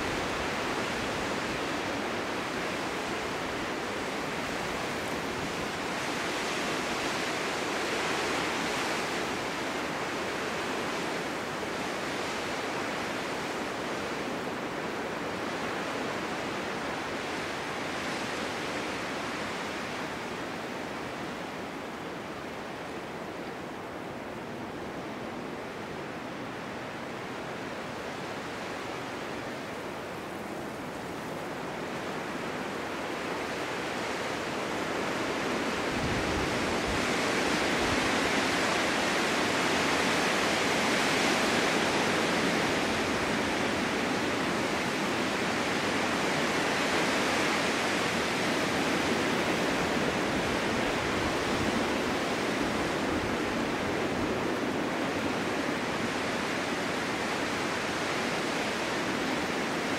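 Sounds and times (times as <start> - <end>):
snowstorm wind gusting: 0.0 - 59.9.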